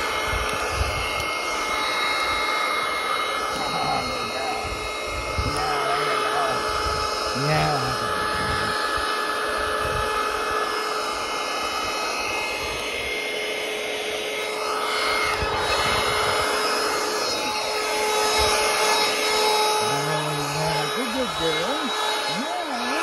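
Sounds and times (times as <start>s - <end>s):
handheld vacuum cleaner whining: 0.0s - 23.0s.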